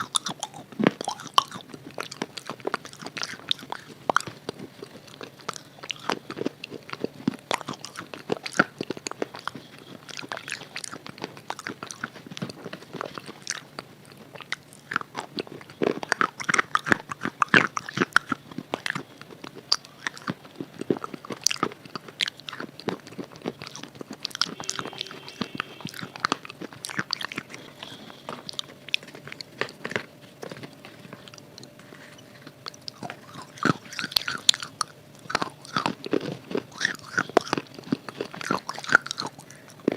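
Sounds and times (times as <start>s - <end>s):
crunchy bar being chewed: 0.0s - 39.9s.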